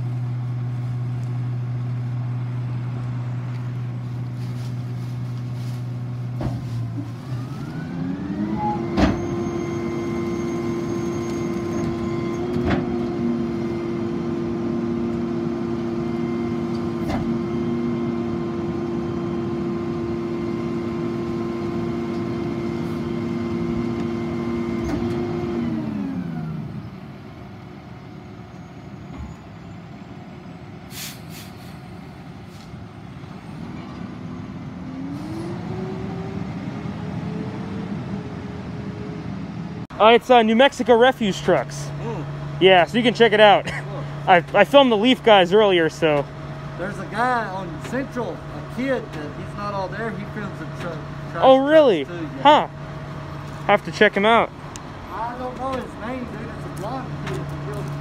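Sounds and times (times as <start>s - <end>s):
garbage truck engine and pump: 0.0s - 58.0s.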